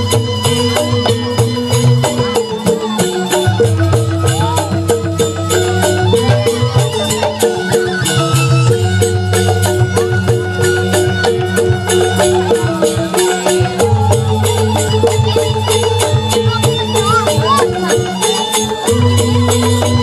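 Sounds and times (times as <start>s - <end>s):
bamboo flutes: 0.0s - 20.0s
hand drums: 0.0s - 20.0s.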